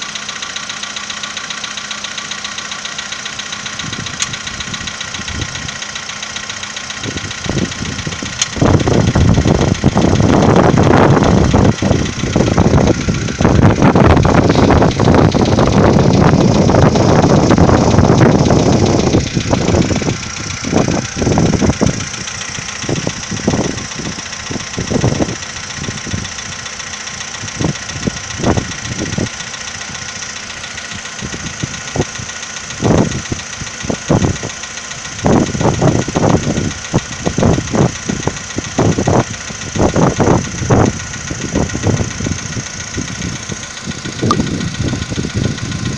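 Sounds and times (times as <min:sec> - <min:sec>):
car engine idling: 0:00.0 - 0:45.9
engine knocking: 0:00.0 - 0:45.9.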